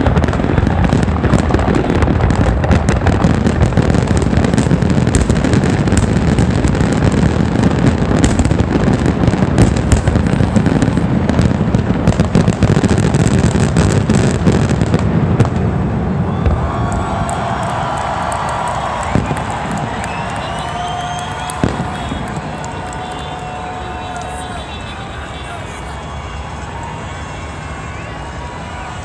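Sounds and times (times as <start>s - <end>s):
fireworks booming: 0.0s - 29.0s
fireworks cracks and crackle: 0.0s - 29.0s.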